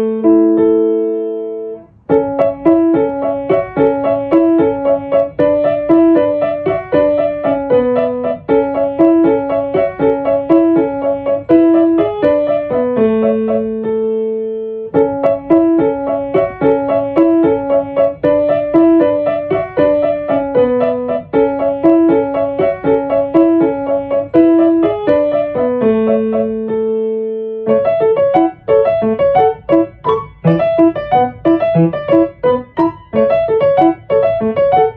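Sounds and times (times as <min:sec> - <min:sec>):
solo piano music: 0:00.0 - 0:34.9.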